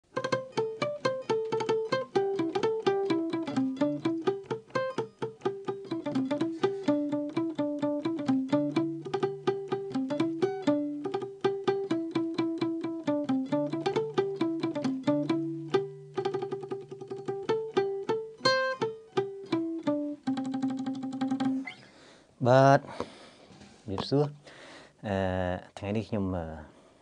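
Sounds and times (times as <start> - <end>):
fingerstyle acoustic guitar melody: 0.1 - 21.8.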